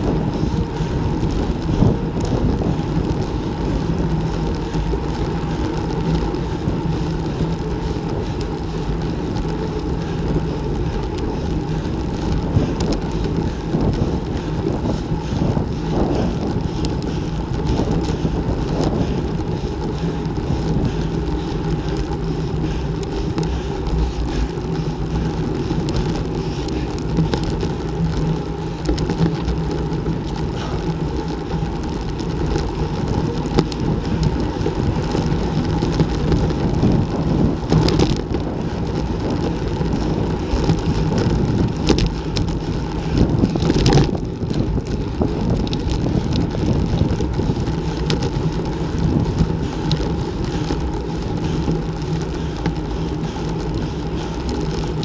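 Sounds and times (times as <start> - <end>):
small rattles and clicks: 0.0 - 55.0
tyre and road rumble: 0.0 - 55.0
wind rushing over microphone: 0.0 - 55.0.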